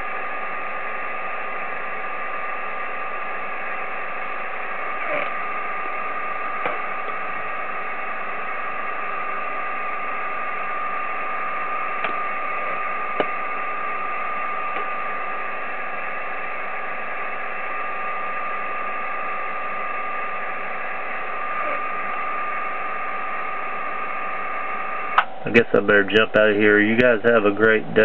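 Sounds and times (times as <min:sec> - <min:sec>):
radio static hiss: 0:00.0 - 0:28.0
steady tone: 0:00.0 - 0:28.0.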